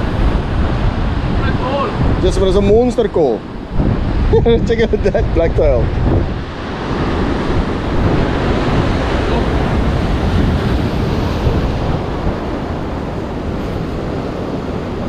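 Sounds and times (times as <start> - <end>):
surf breaking over rocks: 0.0 - 15.0.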